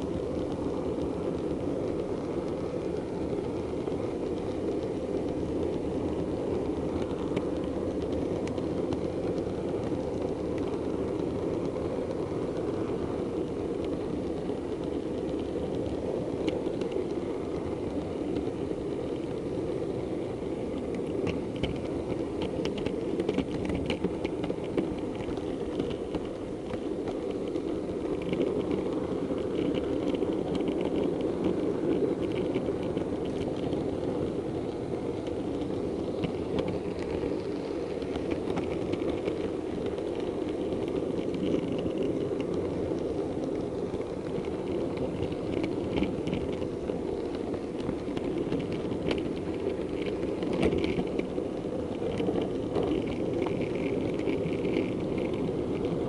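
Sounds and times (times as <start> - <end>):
model train running on track: 0.0 - 56.0
wheels clicking over points: 0.0 - 56.0.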